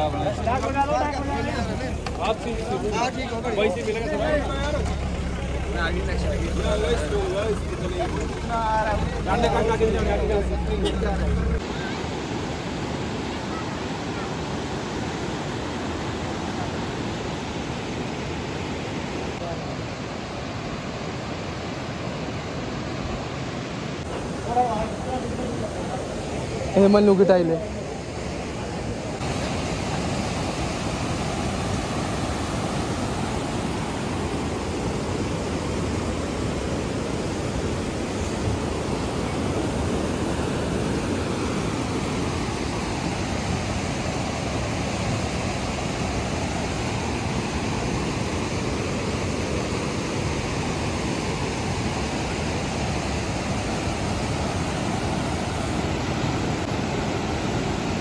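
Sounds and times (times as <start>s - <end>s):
flooded river rushing: 0.0s - 58.0s.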